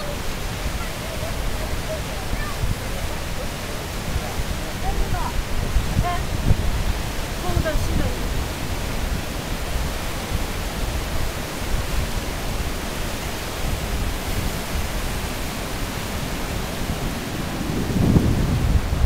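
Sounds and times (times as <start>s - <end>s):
river rapids rushing: 0.0s - 19.0s
wind buffeting microphone: 0.0s - 19.0s.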